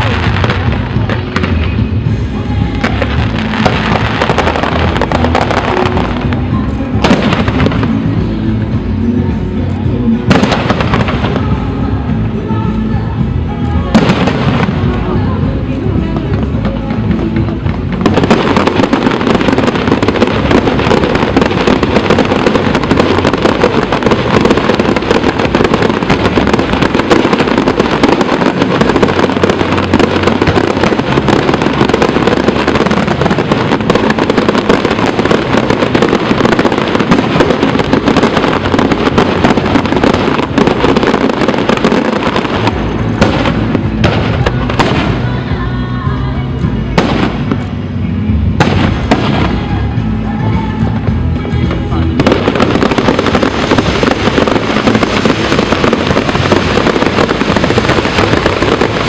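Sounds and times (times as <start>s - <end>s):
fireworks bursting and crackling: 0.0s - 59.0s.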